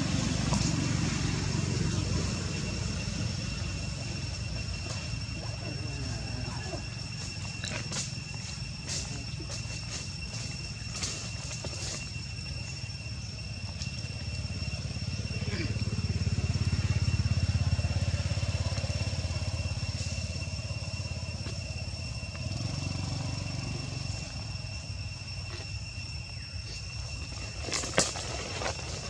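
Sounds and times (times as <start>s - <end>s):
steady high-pitched tones: 0.0s - 27.6s
low engine-like rumble: 0.0s - 29.0s.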